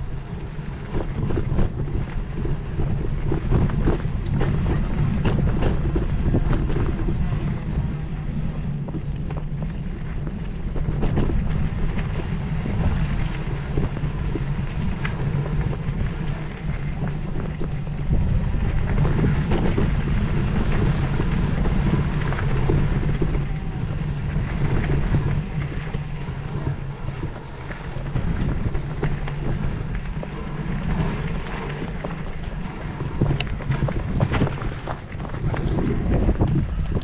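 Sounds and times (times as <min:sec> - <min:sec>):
low rumble of travel: 0:00.0 - 0:37.0
wind buffeting microphone: 0:00.0 - 0:37.0.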